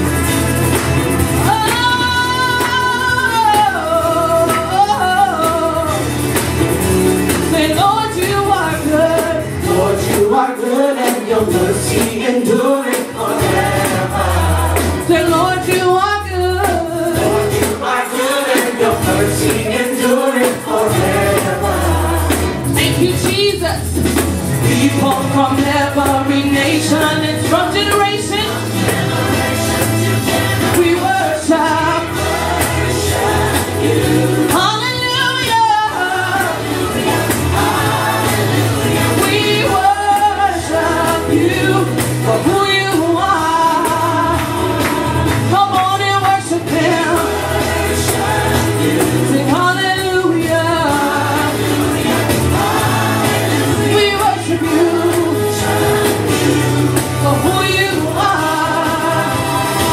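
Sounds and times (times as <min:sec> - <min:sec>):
gospel band with bass line: 0:00.0 - 0:59.9.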